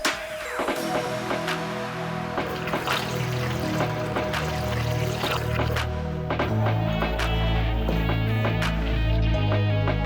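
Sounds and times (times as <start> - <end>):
electronic music with bass and beat: 0.0 - 10.0.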